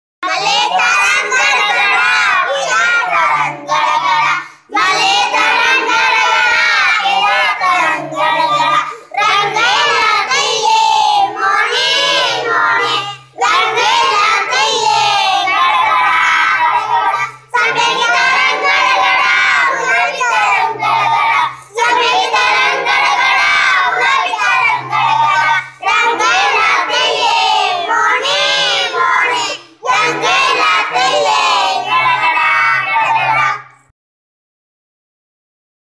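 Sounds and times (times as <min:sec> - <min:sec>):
children singing: 0:00.2 - 0:33.9.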